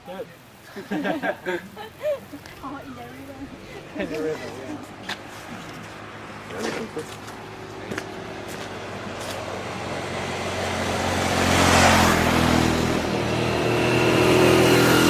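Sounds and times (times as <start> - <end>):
vehicle engine passing: 2.6 - 15.0.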